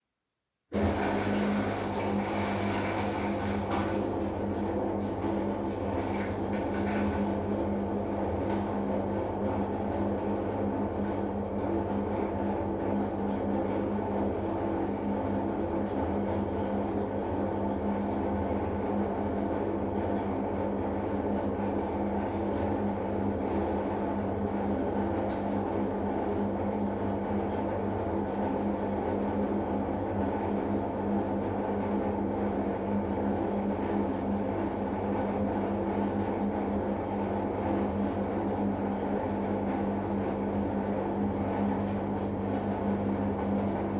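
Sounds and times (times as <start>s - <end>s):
washing machine drain pump humming: 0.7s - 43.9s.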